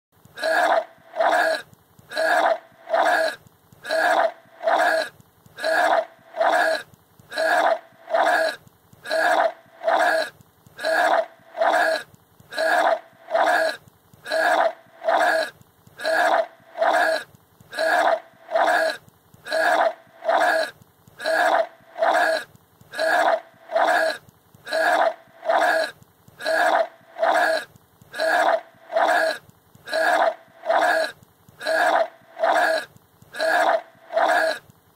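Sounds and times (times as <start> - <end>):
person retching and gagging: 0.4 - 34.6.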